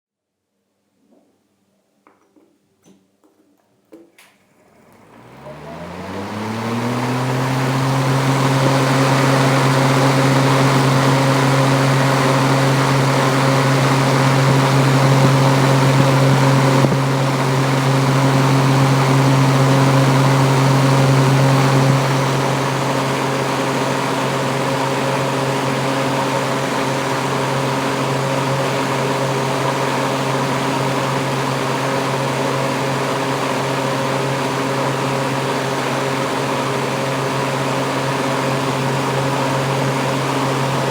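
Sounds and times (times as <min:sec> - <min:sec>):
kitchen exhaust fan running: 0:04.1 - 0:40.9.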